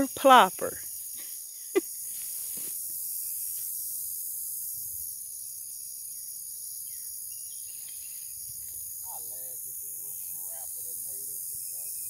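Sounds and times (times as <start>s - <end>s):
faint outdoor background noise: 0.0s - 12.0s
insects buzzing and shrilling: 0.0s - 12.0s.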